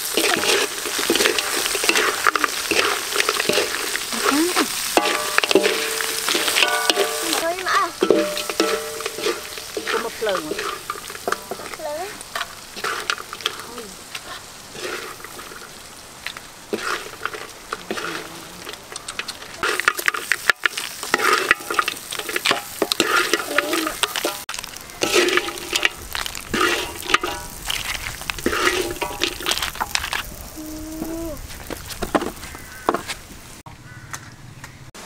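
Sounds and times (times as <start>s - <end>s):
metal spatula scraping a pan: 0.0s - 15.8s, 16.7s - 30.3s
food sizzling in a wok: 0.0s - 34.0s.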